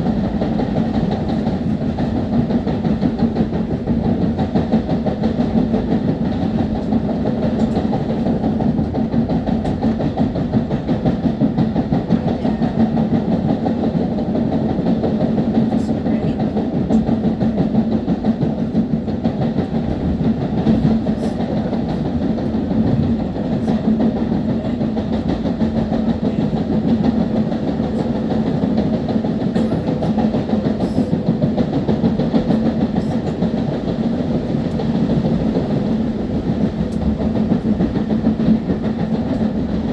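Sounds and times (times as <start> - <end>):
train wheels rumbling: 0.0 - 39.9.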